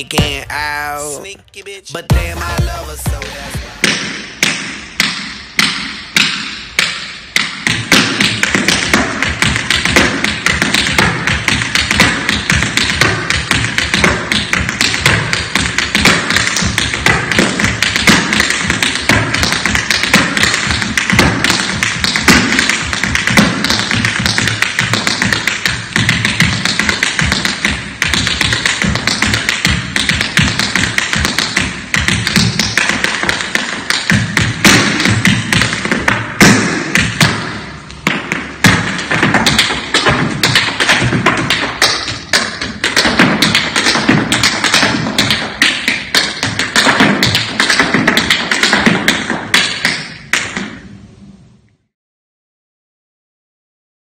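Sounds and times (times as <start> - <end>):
tap shoes striking floor: 2.1 - 50.8.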